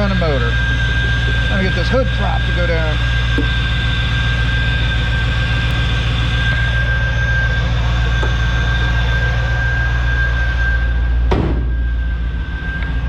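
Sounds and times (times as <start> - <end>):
car engine idling: 0.0 - 13.0
high whine: 0.0 - 13.0.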